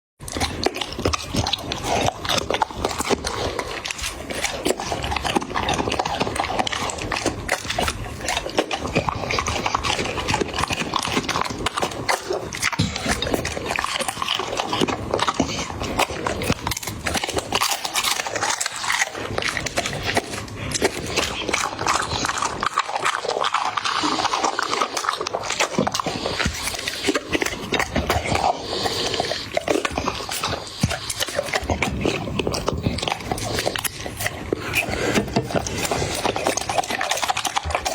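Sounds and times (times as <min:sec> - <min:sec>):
dog chewing food: 0:00.2 - 0:37.9.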